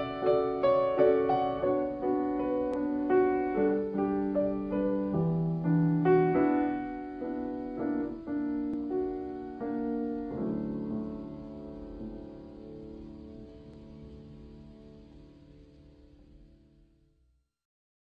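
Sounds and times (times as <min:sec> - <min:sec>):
slow piano melody: 0:00.0 - 0:16.9.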